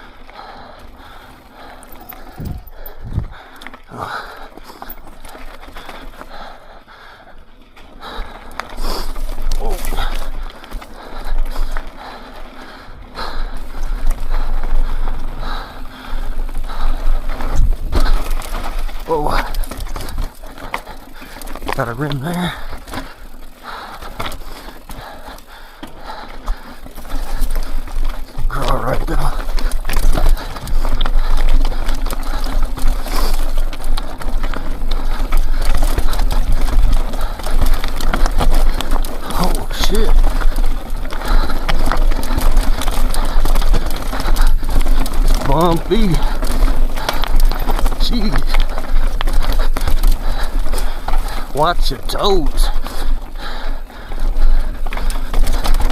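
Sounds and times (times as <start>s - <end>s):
bike rattling and clattering: 0.0s - 55.9s
tyres crunching on rocks: 1.0s - 6.2s, 7.8s - 12.0s, 13.6s - 55.9s.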